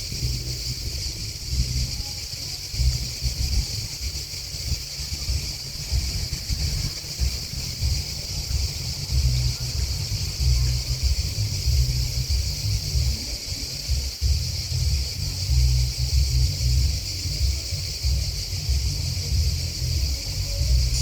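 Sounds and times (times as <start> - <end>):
insects chirping: 0.0 - 21.0
wind buffeting microphone: 0.0 - 21.0.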